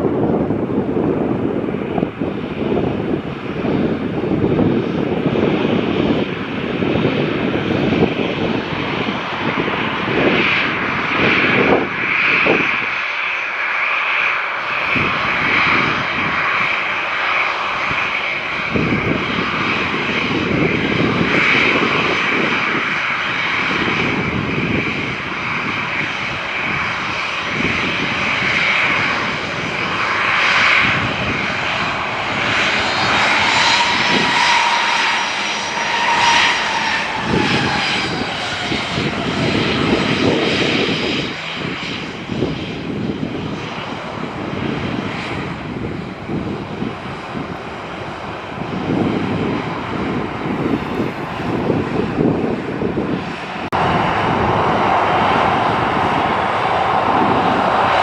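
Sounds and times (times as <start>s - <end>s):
airliner engines rumbling: 0.0s - 58.0s
high engine whine: 0.0s - 58.0s.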